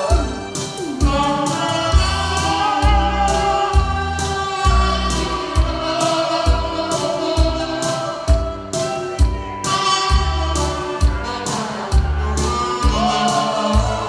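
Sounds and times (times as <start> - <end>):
backing track drum beat: 0.0 - 14.0
saxophone melody with vibrato: 0.0 - 14.0.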